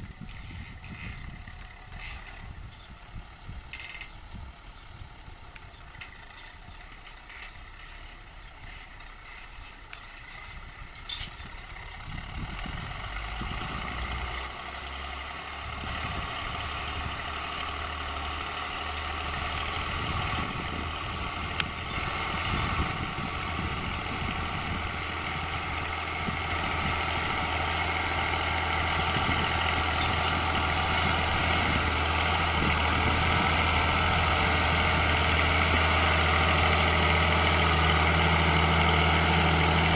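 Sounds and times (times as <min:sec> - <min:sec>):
diesel tractor running under load: 0:00.0 - 0:39.9.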